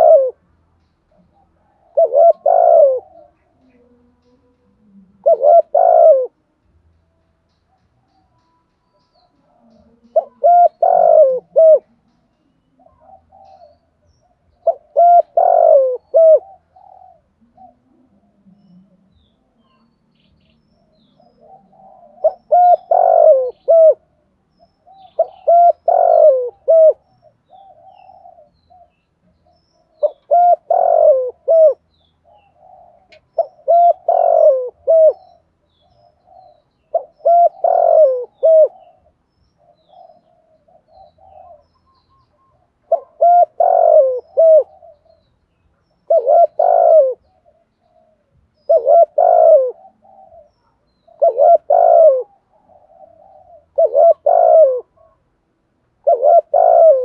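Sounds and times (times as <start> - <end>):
dove cooing: 0.0 - 6.4, 7.7 - 19.9, 20.8 - 57.0.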